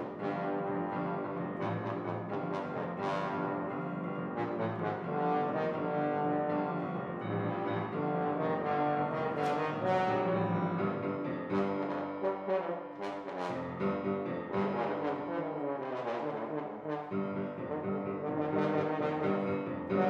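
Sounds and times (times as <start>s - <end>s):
french horn melody: 0.0s - 20.0s
piano accompaniment: 0.0s - 20.0s.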